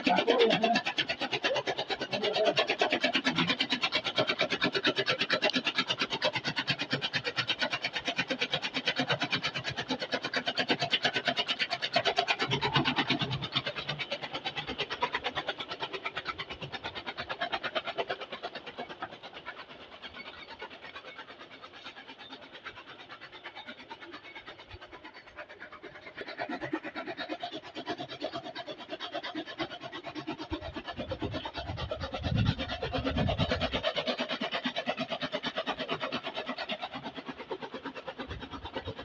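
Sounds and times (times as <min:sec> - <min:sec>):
chaff cutter chopping stalks: 0:00.0 - 0:39.0.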